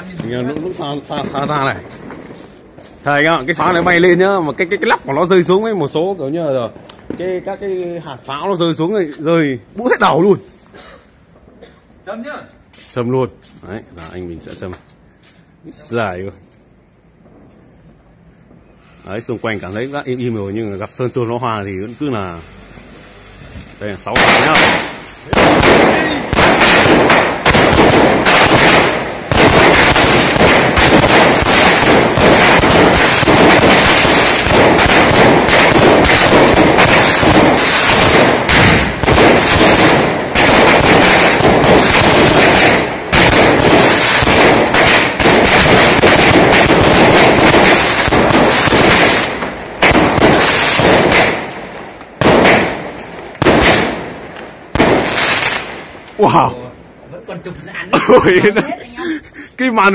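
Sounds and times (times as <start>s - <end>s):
fireworks bangs and crackling bursts: 0.0s - 10.3s, 17.2s - 56.2s.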